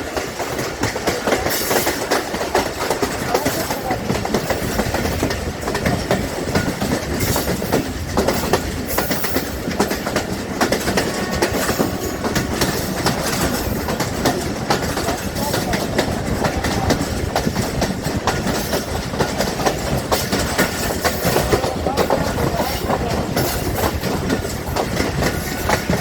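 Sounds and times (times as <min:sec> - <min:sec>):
train rumble: 0:00.0 - 0:26.0
train wheels clattering: 0:00.0 - 0:26.0.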